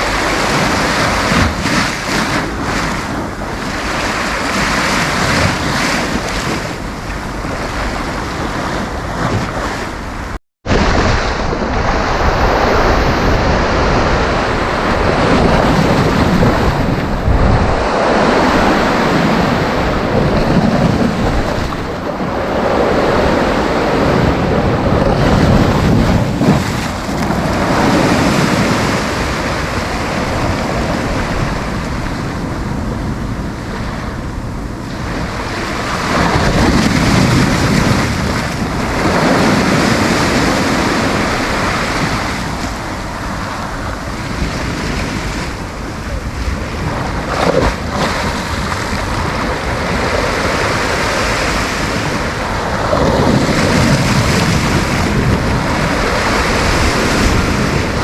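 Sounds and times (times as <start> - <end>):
sea surf breaking: 0.0 - 58.0
wind buffeting microphone: 0.0 - 58.0.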